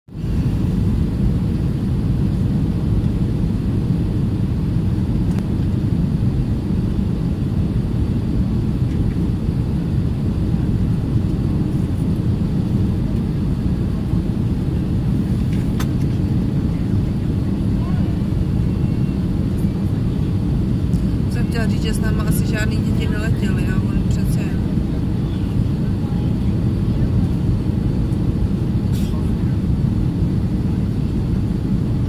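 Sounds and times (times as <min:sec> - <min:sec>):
airliner cabin rumble: 0:00.1 - 0:32.0.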